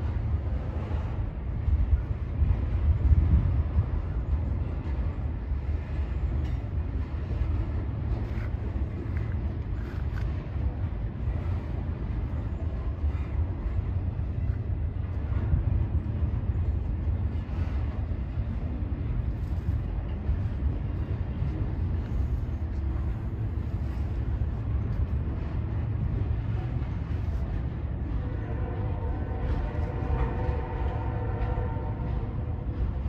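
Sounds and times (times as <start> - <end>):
train rumbling over steel bridge: 0.0 - 33.0.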